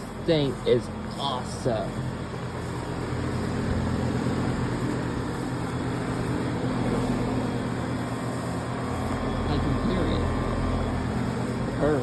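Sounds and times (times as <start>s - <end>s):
heat pump unit humming: 0.0s - 12.0s.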